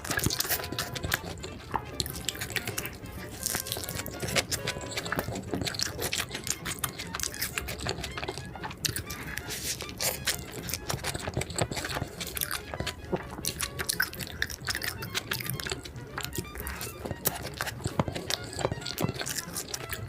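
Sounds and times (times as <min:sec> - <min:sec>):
person biting and chewing food: 0:00.0 - 0:20.0
wet mouth clicks: 0:00.0 - 0:20.0.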